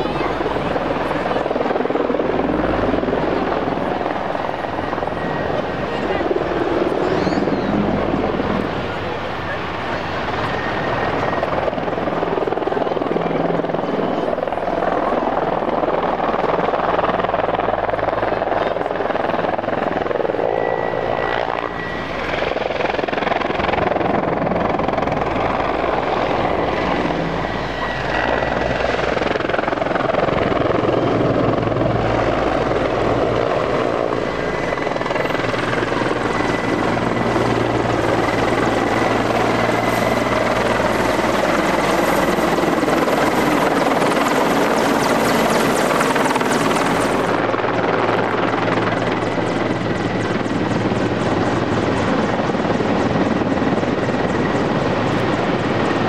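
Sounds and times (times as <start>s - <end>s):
helicopter rotor noise: 0.0s - 56.0s
high whine of turbine engines: 0.0s - 56.0s.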